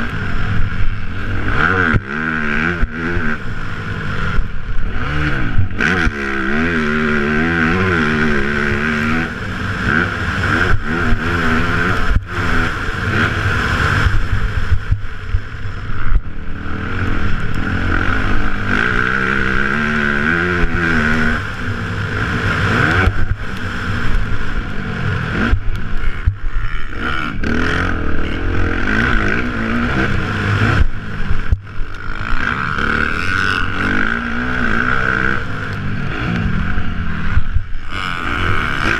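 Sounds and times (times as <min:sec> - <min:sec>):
dirt bike engine revving: 0:00.0 - 0:38.9
wind rushing over microphone: 0:00.0 - 0:38.9.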